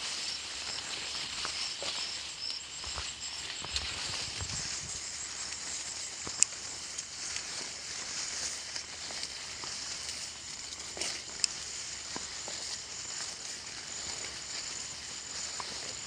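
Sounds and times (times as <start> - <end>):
plants rustling and swishing: 0.0 - 16.0
steady high hiss: 0.0 - 16.0.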